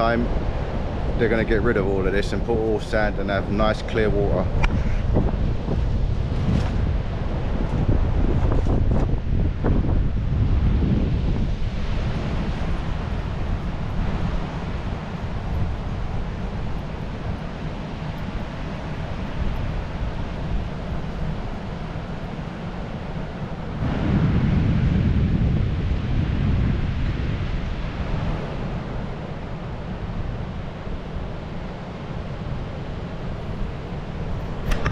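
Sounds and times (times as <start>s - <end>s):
surf on a beach: 0.0s - 34.9s
wind buffeting microphone: 0.0s - 34.9s.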